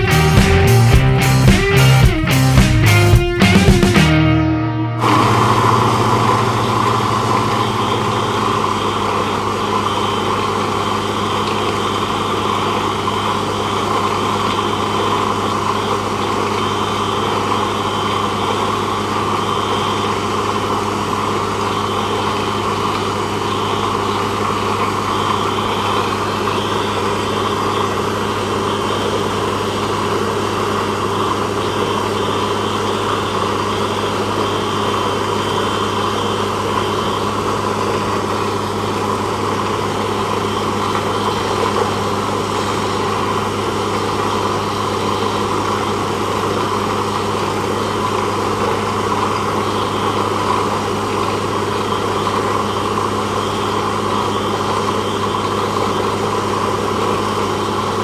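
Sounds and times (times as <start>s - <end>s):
drilling rig running: 0.0s - 58.0s.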